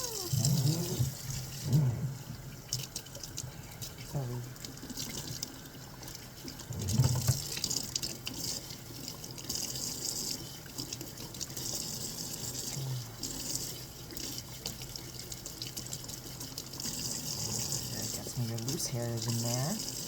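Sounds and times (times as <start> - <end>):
tap water running and splashing: 0.0 - 20.0.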